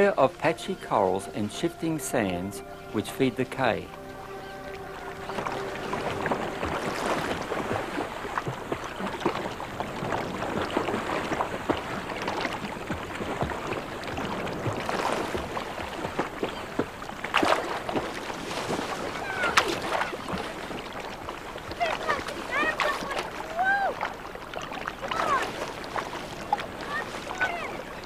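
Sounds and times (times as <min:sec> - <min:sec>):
seawater splashing and lapping: 0:00.0 - 0:28.0.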